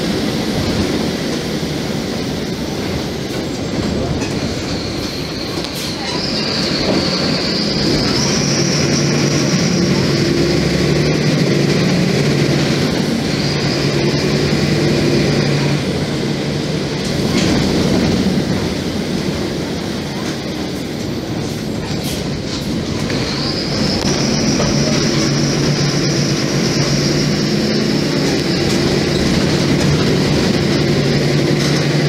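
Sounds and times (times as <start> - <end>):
bus engine running: 0.0 - 32.0
road noise: 0.0 - 32.0.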